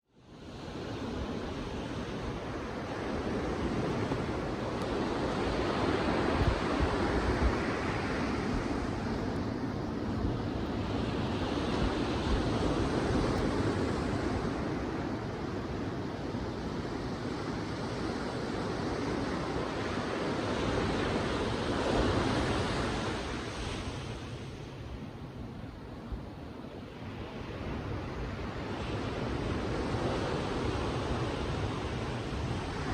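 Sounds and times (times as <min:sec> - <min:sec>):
ocean waves breaking on beach: 0:00.2 - 0:32.9
wind on microphone: 0:00.2 - 0:32.9.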